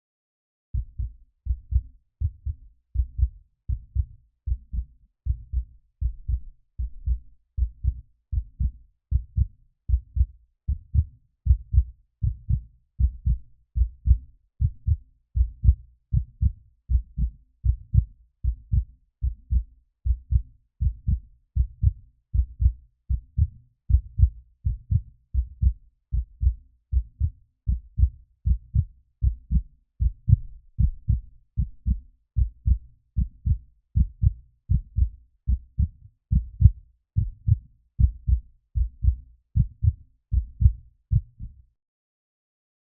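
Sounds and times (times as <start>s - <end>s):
heartbeat: 0.7s - 41.6s.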